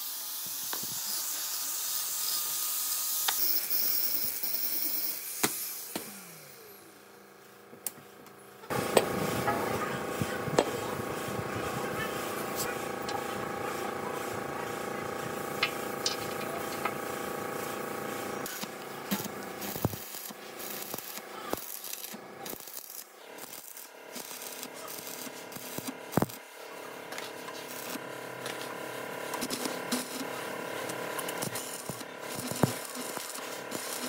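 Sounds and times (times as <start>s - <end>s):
workshop machine humming: 0.4s - 34.0s.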